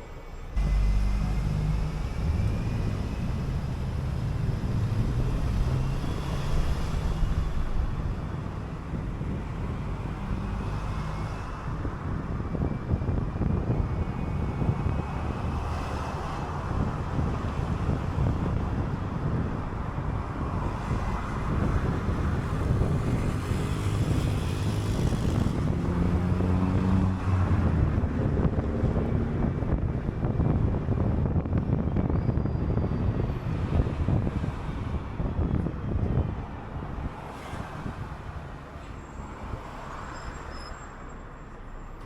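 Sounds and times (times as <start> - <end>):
bus engine running: 0.0 - 39.8
road rumble: 0.0 - 42.0.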